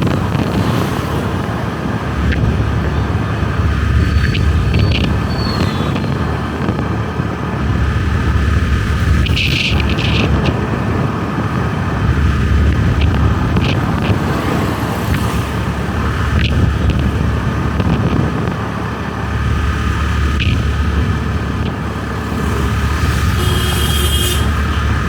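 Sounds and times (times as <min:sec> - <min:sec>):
motorbike engine rumbling: 0:00.0 - 0:25.0.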